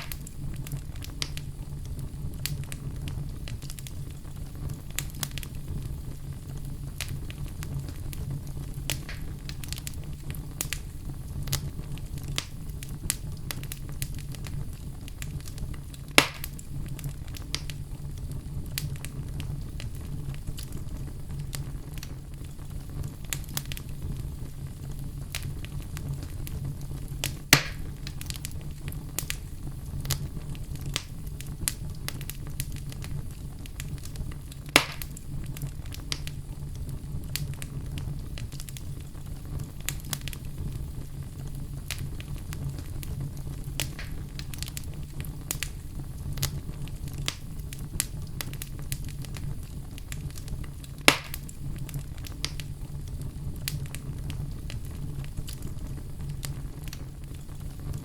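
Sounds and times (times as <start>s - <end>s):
fireplace fire crackling: 0.0s - 58.0s
low fire rumble: 0.0s - 58.0s.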